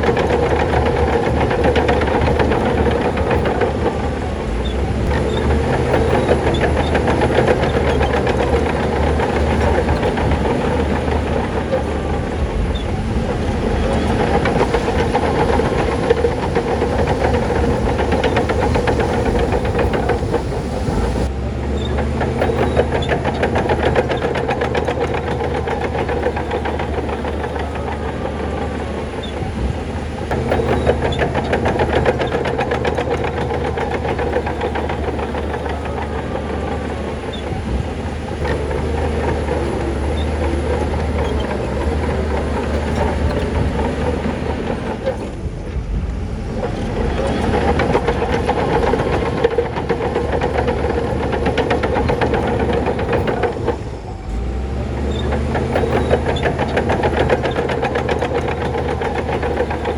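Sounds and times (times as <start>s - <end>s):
rapid metallic clatter: 0.0s - 45.5s, 46.2s - 59.9s
diesel machinery engine running: 0.0s - 59.9s.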